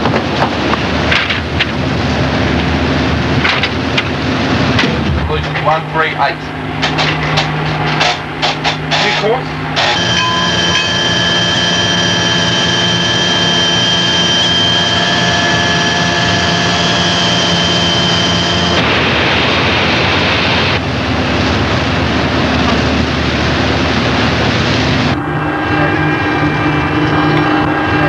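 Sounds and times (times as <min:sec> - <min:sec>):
turbine machinery whining: 0:00.0 - 0:28.0.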